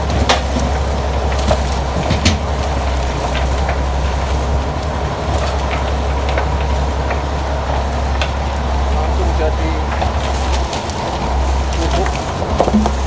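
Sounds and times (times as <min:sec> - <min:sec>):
crusher machine humming: 0:00.0 - 0:13.0.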